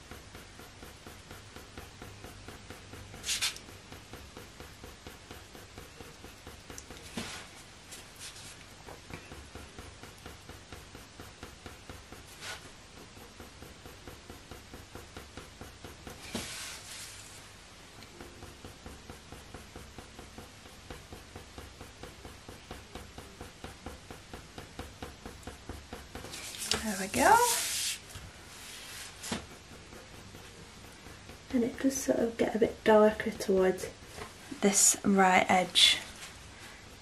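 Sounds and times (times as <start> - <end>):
coloured pencil scratching on paper: 0.0 - 37.0.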